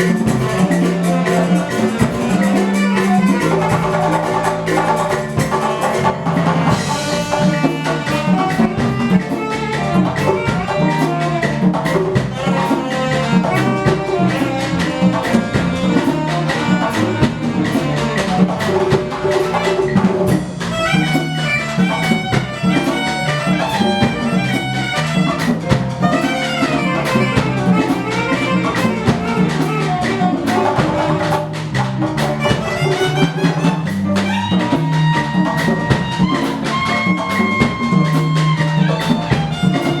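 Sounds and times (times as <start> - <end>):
melody instruments: 0.0 - 40.0
percussion playing steady rhythm: 0.0 - 40.0.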